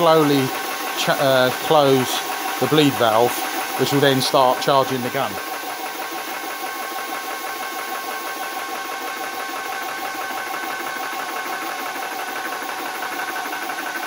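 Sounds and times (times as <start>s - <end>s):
air compressor pulsing hum: 0.0s - 14.0s.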